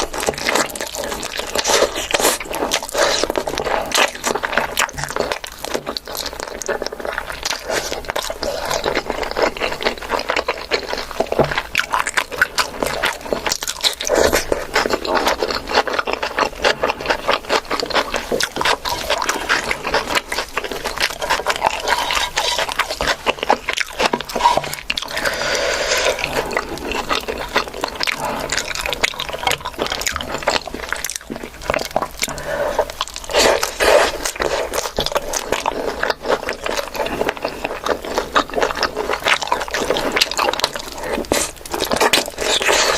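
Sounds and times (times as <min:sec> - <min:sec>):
food crunching: 0:00.0 - 0:42.9
wet chewing and smacking: 0:00.0 - 0:42.9.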